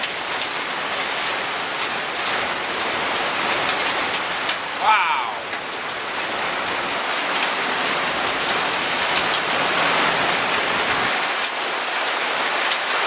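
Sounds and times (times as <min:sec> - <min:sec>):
hailstones ticking on hard surfaces: 0:00.0 - 0:04.8, 0:05.5 - 0:13.0
torrential rain hissing: 0:00.0 - 0:13.0.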